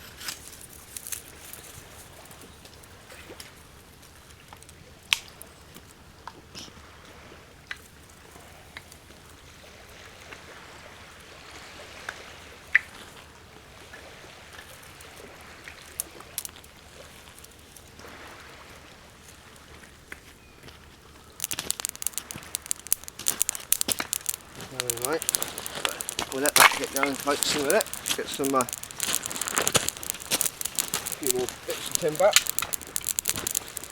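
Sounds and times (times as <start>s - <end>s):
campfire cracks and clicks: 0.0s - 33.9s
low fire hiss: 0.0s - 33.9s.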